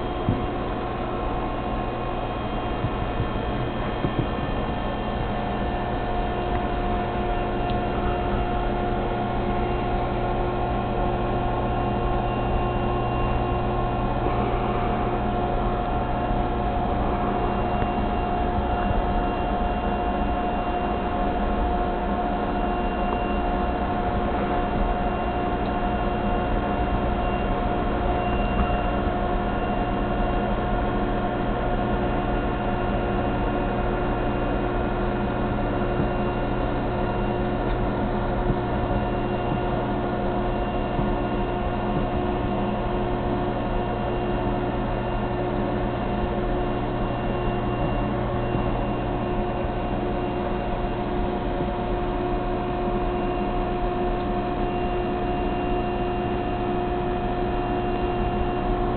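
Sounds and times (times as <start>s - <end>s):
aquarium equipment humming: 0.0s - 58.9s.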